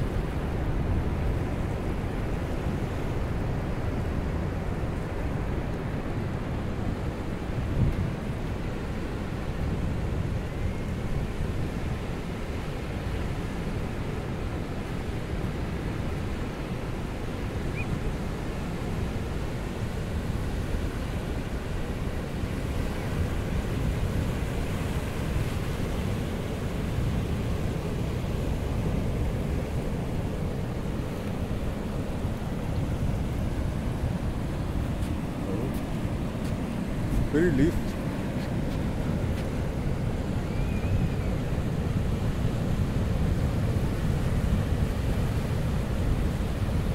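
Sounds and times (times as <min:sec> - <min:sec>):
surf washing onto beach: 0:00.0 - 0:46.9.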